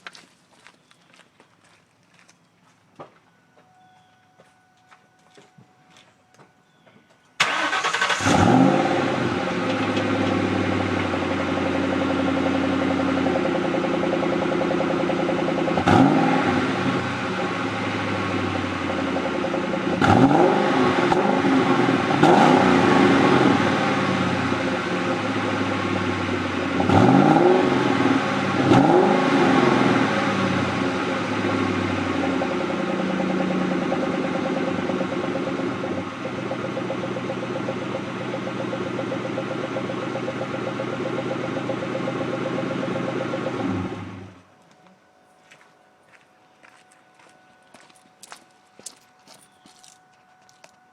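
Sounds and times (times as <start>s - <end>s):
car engine idling and revving: 7.4s - 50.9s.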